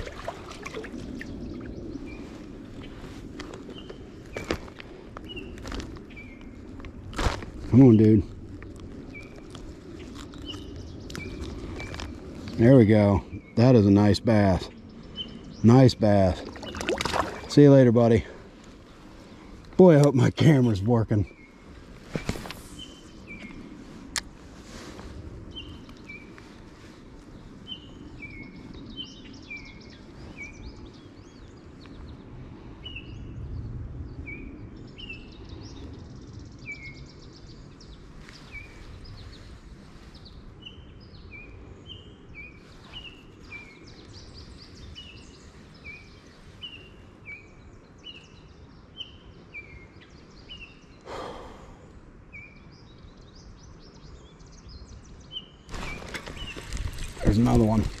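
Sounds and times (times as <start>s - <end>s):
low outdoor background noise: 0.0s - 58.0s
songbird singing: 0.0s - 58.0s.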